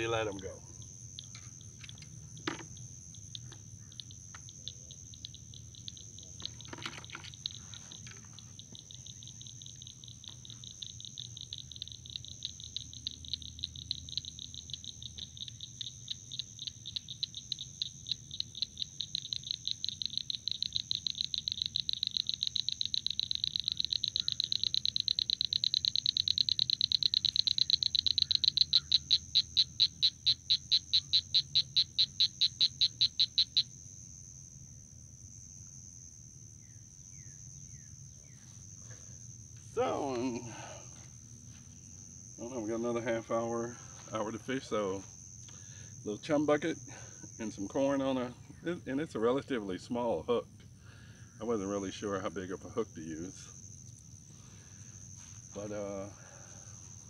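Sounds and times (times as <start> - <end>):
insect rapid pulsing call: 0.0 - 57.0
insects high-pitched drone: 0.0 - 57.0.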